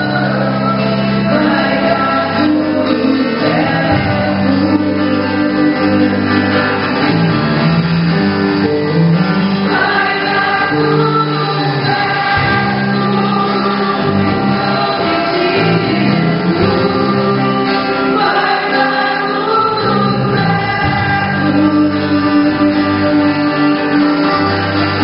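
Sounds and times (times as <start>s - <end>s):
sustained bass notes: 0.0s - 25.0s
voices singing worship music: 0.0s - 25.0s.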